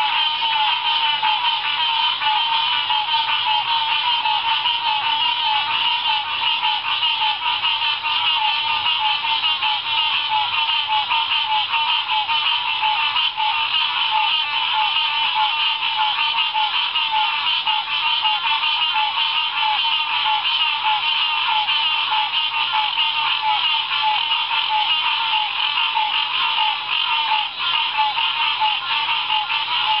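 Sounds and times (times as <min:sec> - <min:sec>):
chorus of frogs calling: 0:00.0 - 0:30.0.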